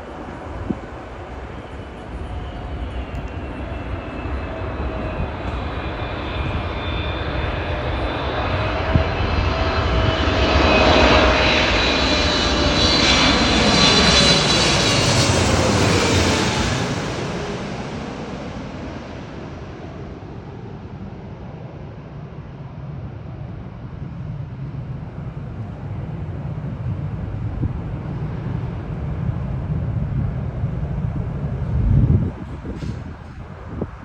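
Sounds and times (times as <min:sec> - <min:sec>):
jet airliner flying past: 0:00.0 - 0:34.0.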